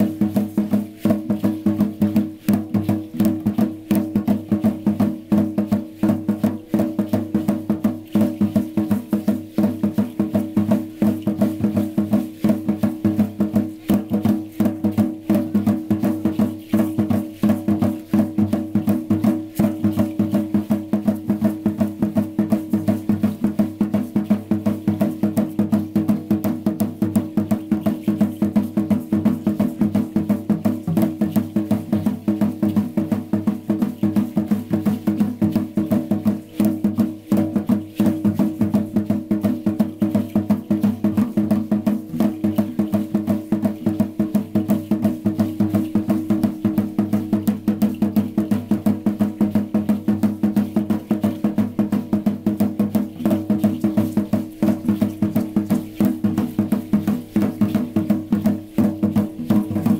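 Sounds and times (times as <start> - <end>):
drum beaten in quick rhythm: 0.0 - 59.9.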